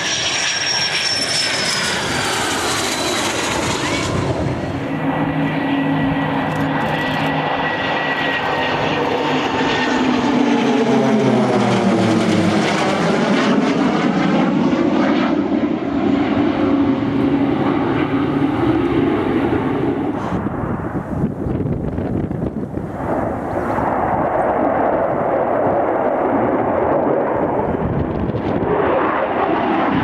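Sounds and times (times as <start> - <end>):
military aircraft flying past: 0.0 - 30.0.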